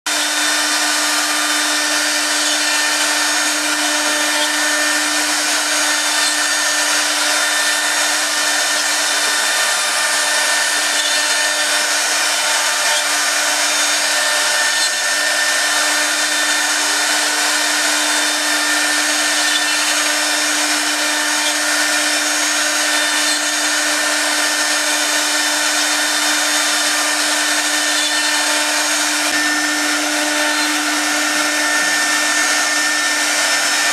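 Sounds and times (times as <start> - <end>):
router bits cutting wood: 0.0 - 33.9
spindle motors whining: 0.1 - 33.9.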